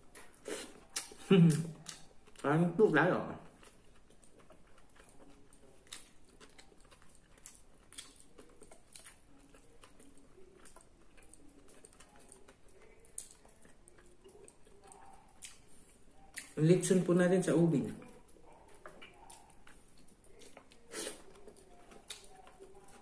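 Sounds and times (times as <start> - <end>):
person chewing food: 0.0 - 17.1, 17.7 - 23.0.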